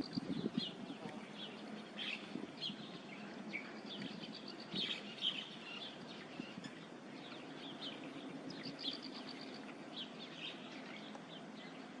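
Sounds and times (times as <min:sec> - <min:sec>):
birds chirping: 0:00.0 - 0:12.0
low background hiss: 0:00.0 - 0:12.0.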